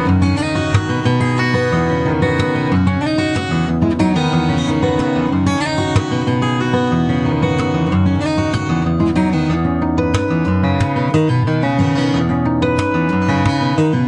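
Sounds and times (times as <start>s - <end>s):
strummed and plucked guitar music: 0.0s - 14.0s.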